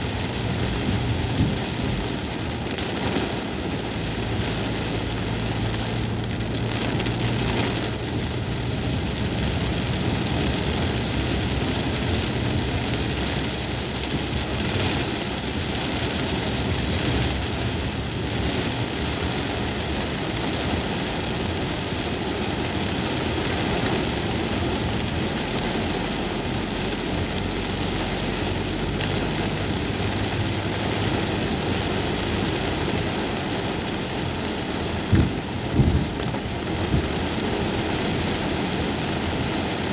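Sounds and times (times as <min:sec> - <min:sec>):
car engine and tyres humming: 0:00.0 - 0:39.9
heavy rain on car roof: 0:00.0 - 0:39.9.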